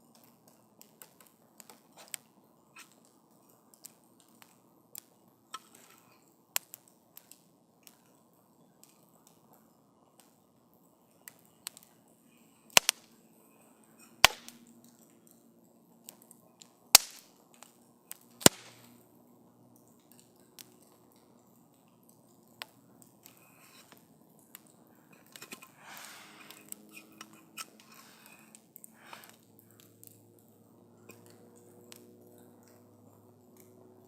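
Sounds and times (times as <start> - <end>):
wood campfire crackling: 0.0 - 34.0
sharp pops and snaps: 0.1 - 8.2, 10.1 - 12.1, 12.7 - 13.2, 14.1 - 19.1, 19.7 - 32.9.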